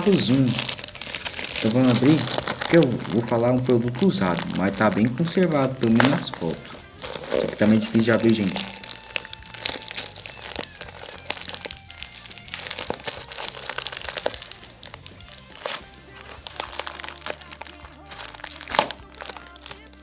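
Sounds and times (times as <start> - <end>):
background music: 0.0 - 20.0
package tearing and crinkling: 0.0 - 20.0.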